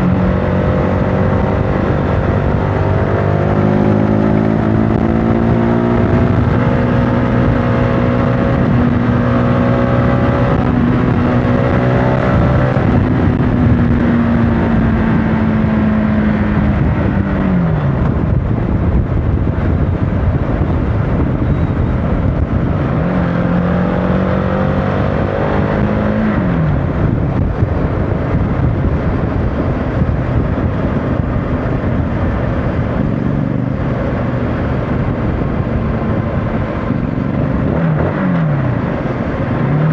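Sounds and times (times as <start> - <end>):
motorcycle engine running: 0.0 - 24.2, 25.2 - 39.9
wind and road noise: 0.0 - 39.9.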